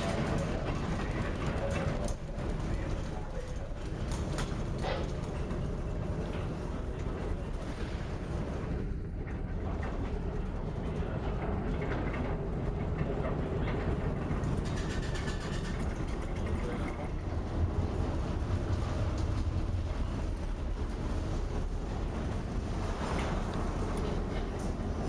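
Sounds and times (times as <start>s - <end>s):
wind and heavy sea rumble: 0.0s - 25.0s.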